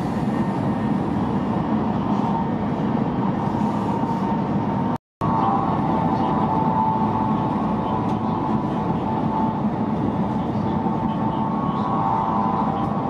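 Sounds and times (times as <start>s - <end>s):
constant high whine: 0.0s - 13.0s.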